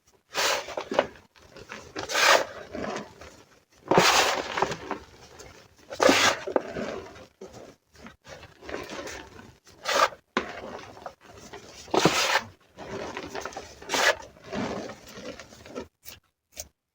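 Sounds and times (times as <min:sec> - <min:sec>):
soft crackling and rubbing: 0:00.1 - 0:16.0
chalk crunching and crumbling: 0:00.3 - 0:16.0.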